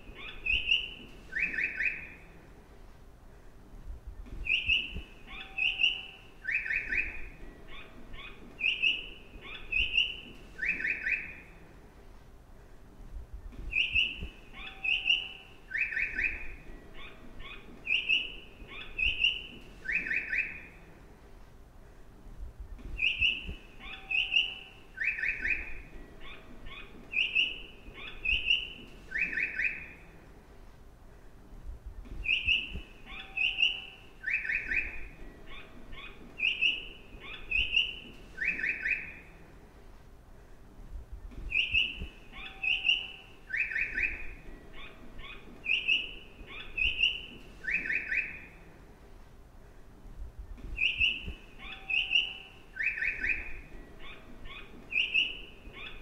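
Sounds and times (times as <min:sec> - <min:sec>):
recorded bird chirps: 0:00.0 - 0:02.8, 0:03.7 - 0:12.1, 0:12.7 - 0:49.2, 0:49.8 - 0:56.0
faint low background rumble: 0:00.0 - 0:56.0.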